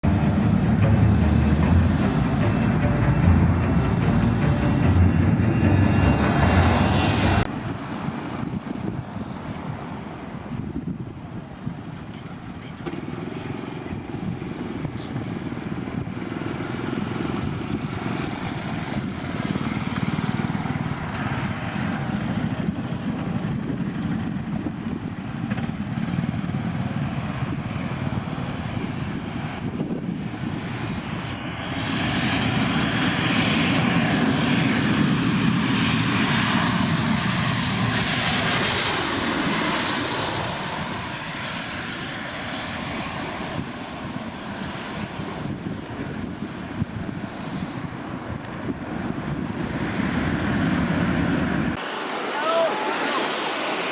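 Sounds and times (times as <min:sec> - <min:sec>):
jet engines roaring: 0:00.0 - 0:10.6, 0:13.0 - 0:53.9.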